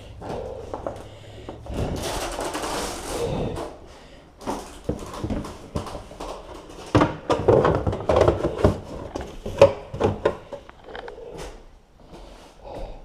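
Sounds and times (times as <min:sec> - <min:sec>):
boxes being handled and packed: 0:00.2 - 0:12.6.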